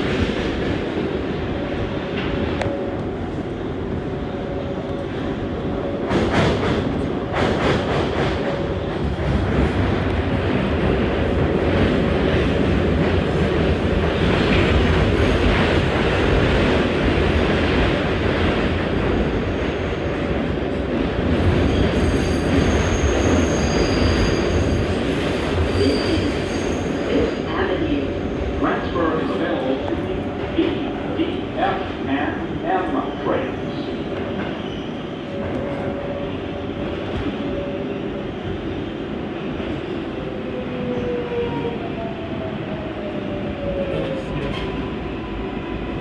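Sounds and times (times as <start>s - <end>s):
subway wheels rumbling on rail: 0.0s - 46.0s.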